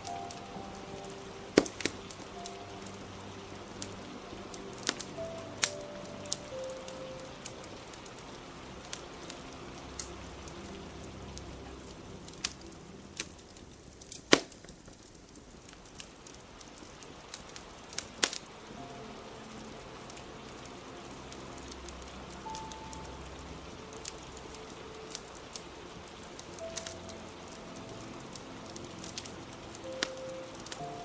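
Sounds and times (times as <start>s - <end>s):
faint soft music: 0.0s - 31.0s
fire crackling and popping: 0.0s - 31.0s
rain hissing: 0.0s - 31.0s.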